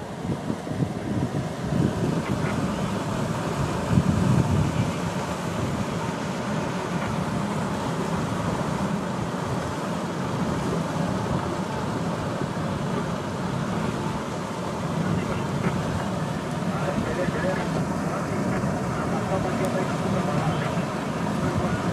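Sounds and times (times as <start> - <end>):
herd churning through river water: 0.0 - 21.9.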